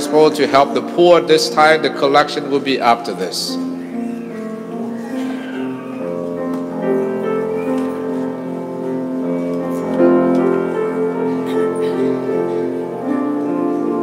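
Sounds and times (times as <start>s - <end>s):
slow keyboard music in chords: 0.0s - 14.0s.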